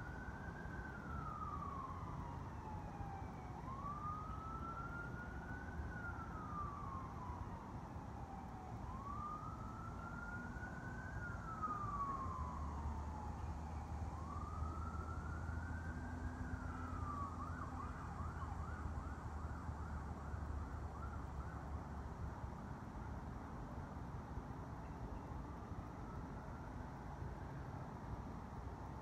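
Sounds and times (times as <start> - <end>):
distant emergency siren: 0.0 - 29.0.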